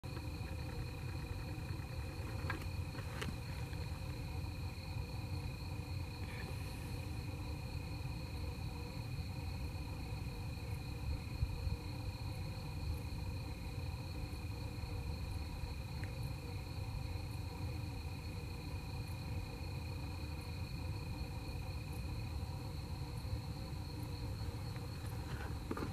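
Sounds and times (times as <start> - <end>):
crickets trilling: 0.0 - 25.9
low steady rumble: 0.0 - 25.9.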